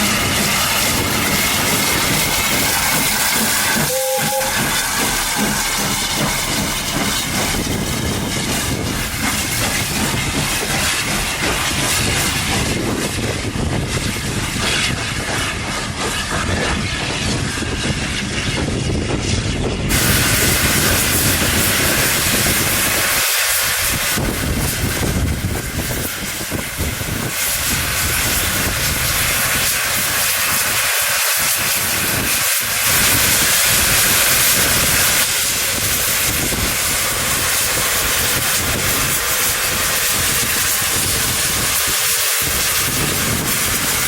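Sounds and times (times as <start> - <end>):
steam locomotive hissing: 0.0 - 44.0.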